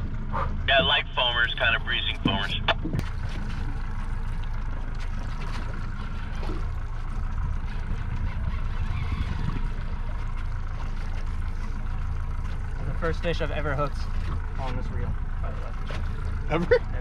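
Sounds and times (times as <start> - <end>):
outboard motor idling: 0.0 - 17.0
water and air noise: 0.0 - 17.0.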